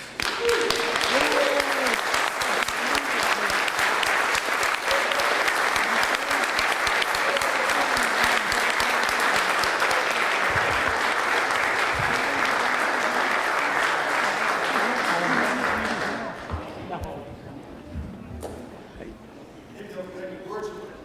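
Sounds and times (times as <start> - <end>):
congregation applauding: 0.0 - 17.2.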